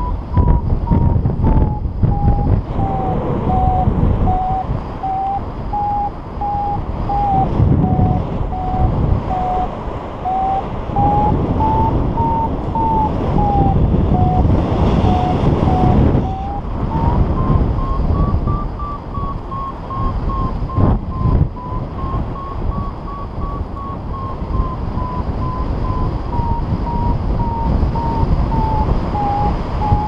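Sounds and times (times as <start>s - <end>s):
variometer beeping: 0.0s - 30.0s
wind buffeting microphone: 0.0s - 30.0s.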